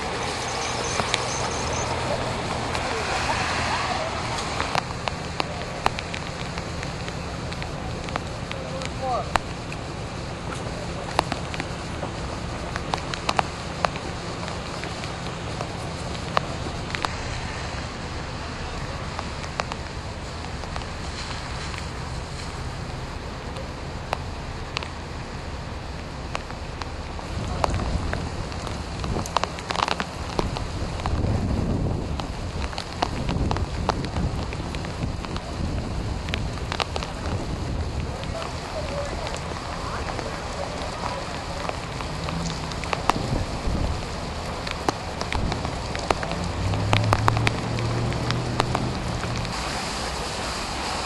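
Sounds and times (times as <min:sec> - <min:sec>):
low rumble of wind: 0:00.0 - 0:51.0
raindrops ticking: 0:00.0 - 0:51.0.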